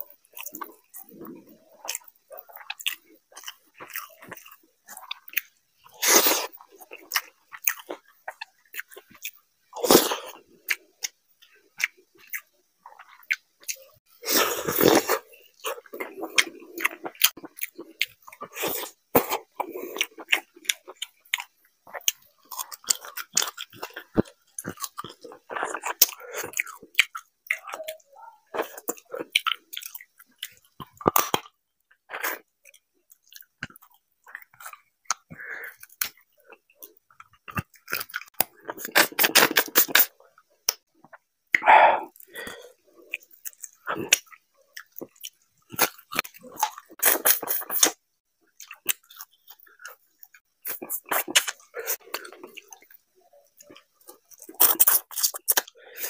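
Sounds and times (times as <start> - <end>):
chewing and lip-smacking: 0.0 - 9.4, 10.2 - 14.0, 14.6 - 56.0.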